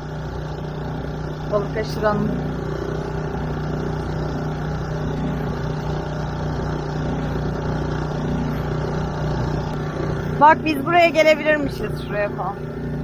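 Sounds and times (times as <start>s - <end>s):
outboard motor humming: 0.0s - 13.0s.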